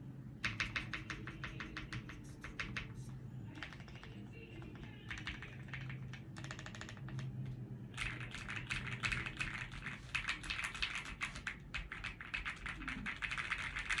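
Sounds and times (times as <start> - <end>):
mechanical keyboard typing: 0.4 - 3.0, 3.6 - 14.0.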